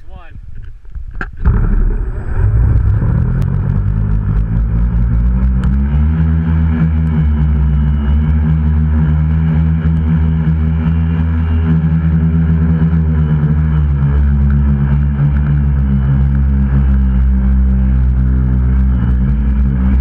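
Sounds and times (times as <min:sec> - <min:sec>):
drone motors buzzing: 0:01.4 - 0:20.0.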